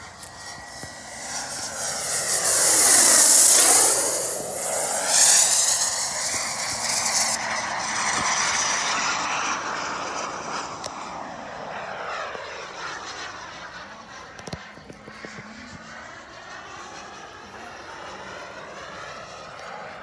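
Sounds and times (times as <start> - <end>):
jet turbine whine: 0.0 - 20.0.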